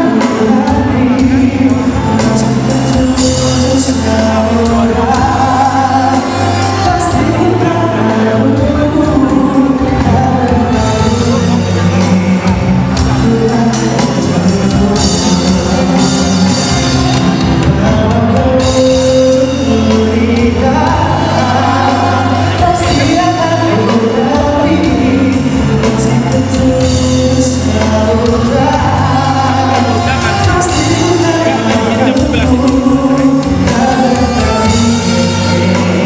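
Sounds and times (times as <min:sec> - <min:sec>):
band with bass and drums: 0:00.0 - 0:36.0
person singing slow pop song: 0:00.0 - 0:36.0.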